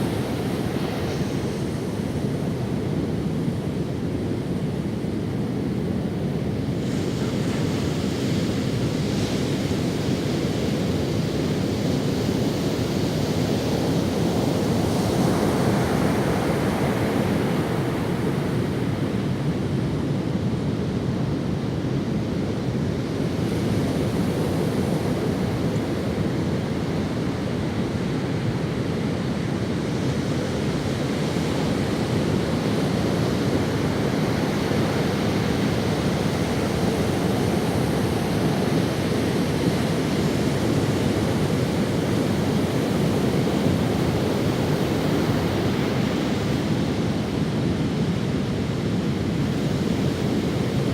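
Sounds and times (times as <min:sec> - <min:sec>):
ocean waves on sandy beach: 0:00.0 - 0:50.9.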